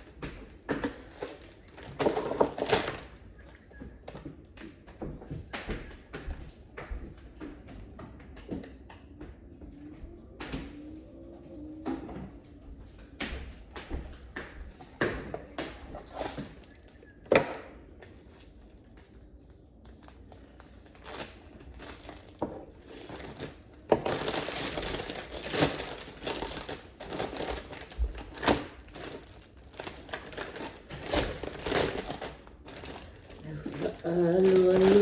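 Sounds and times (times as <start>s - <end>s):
crinkling and rustling: 0.0s - 35.0s.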